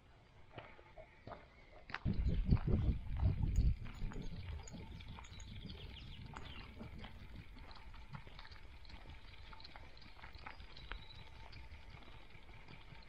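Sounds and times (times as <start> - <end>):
paws rustling on forest path: 0.4 - 13.0.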